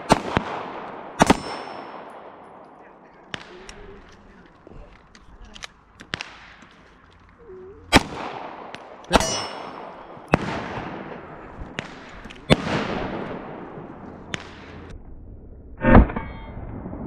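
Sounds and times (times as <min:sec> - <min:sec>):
pistol shots echoing: 0:00.0 - 0:14.9.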